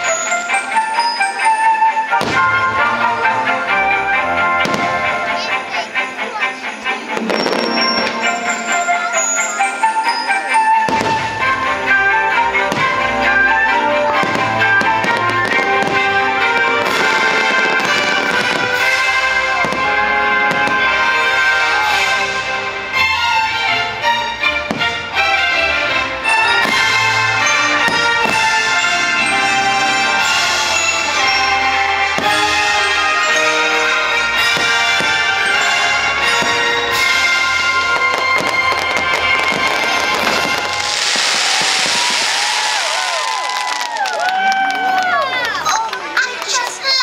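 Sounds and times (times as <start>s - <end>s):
fireworks bursting: 2.1s - 23.4s, 24.6s - 45.1s.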